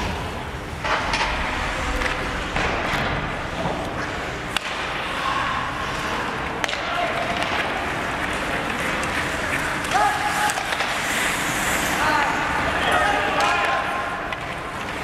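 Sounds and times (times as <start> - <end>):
skates and sticks on ice: 0.0 - 15.0
voices echoing in rink: 0.0 - 15.0.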